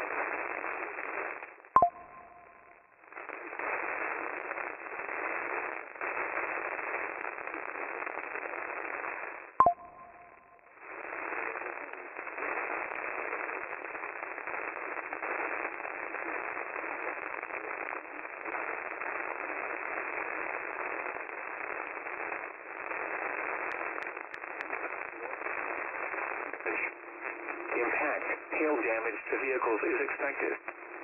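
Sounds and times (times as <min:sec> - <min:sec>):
radio static hiss: 0:00.0 - 0:02.5, 0:03.1 - 0:10.3, 0:10.9 - 0:31.0.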